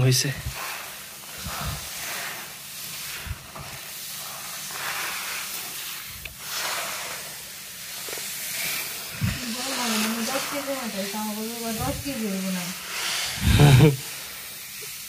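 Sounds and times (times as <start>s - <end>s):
dried seeds rustling under hand: 0.0s - 15.0s.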